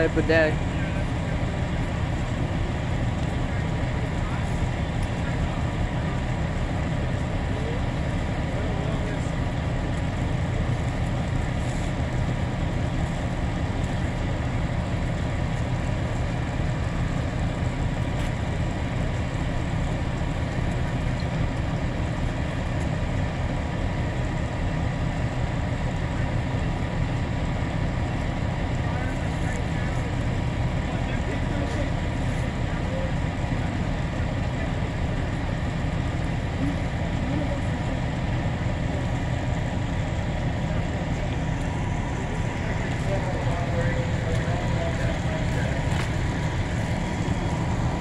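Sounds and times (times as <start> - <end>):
large vehicle engine idling: 0.0 - 48.0.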